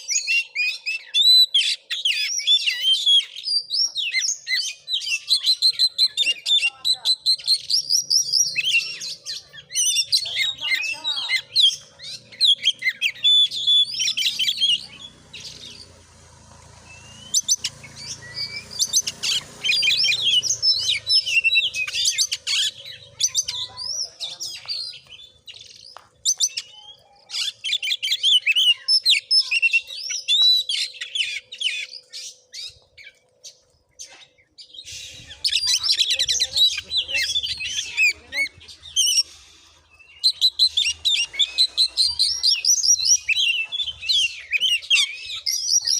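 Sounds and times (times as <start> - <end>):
songbird chirping and whistling: 0.0 - 16.0, 16.8 - 45.9.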